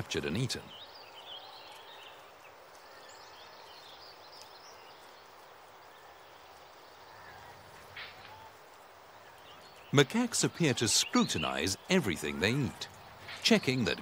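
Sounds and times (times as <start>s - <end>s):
soft steady hiss: 0.0s - 14.0s.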